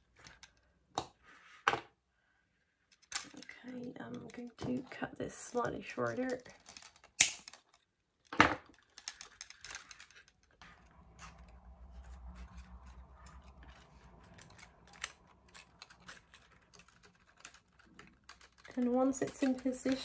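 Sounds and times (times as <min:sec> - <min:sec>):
sugar flowers clicking and rustling: 0:02.9 - 0:20.0.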